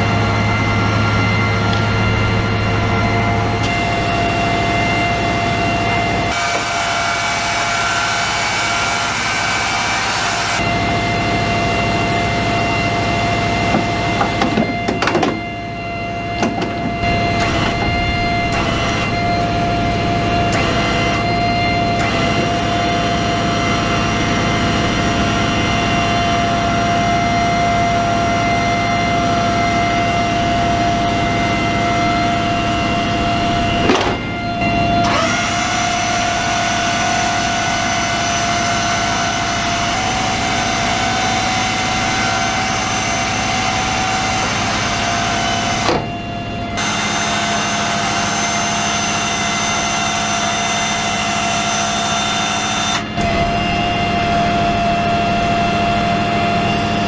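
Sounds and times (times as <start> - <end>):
high machinery whine: 0.0 - 57.0
vehicle engine drone: 0.0 - 57.0.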